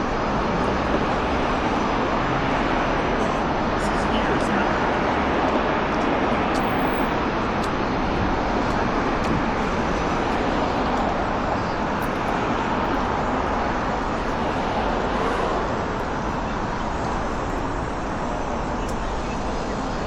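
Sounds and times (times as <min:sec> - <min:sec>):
passing cars: 0:00.0 - 0:20.0.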